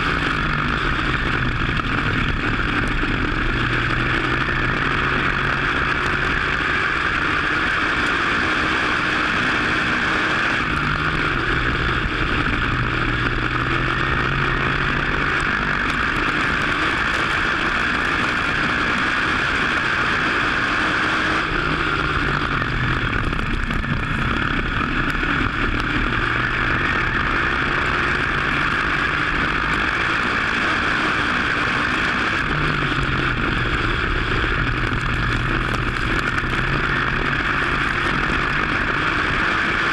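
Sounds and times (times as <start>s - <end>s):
race car engine running: 0.0s - 39.9s
steady rush of noise: 0.0s - 39.9s.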